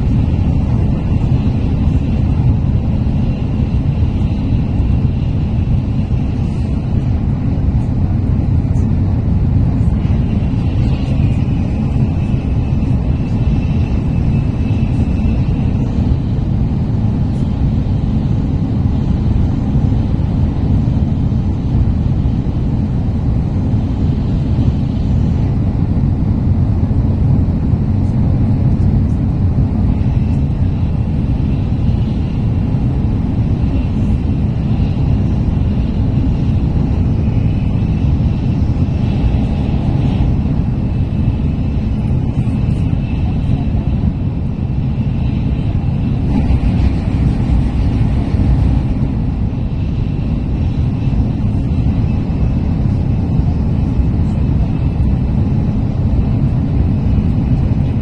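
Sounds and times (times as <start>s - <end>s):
faint high whine: 0.0s - 58.0s
train rumble inside carriage: 0.0s - 58.0s.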